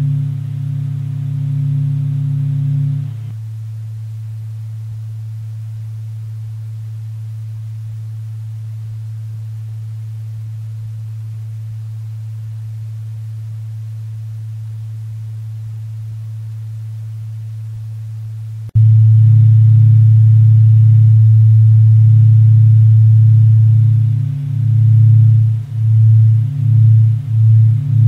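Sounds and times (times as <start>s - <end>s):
steady low pure tone: 0.0s - 28.0s.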